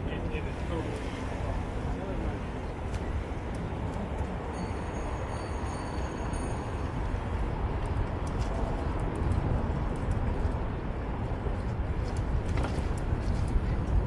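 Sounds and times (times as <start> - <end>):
street noise: 0.0 - 14.0
wind buffeting microphone: 0.0 - 14.0.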